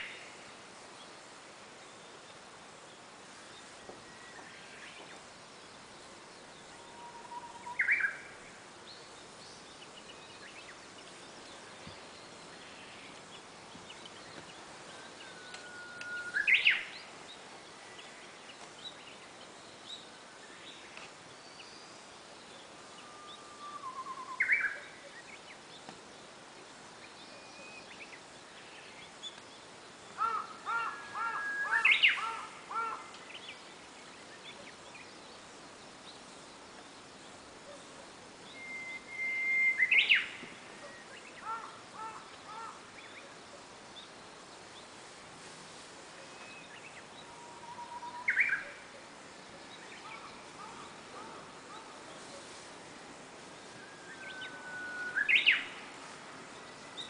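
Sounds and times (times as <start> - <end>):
bush warbler singing: 0.0 - 57.0
faint chirps of other birds: 0.0 - 57.0.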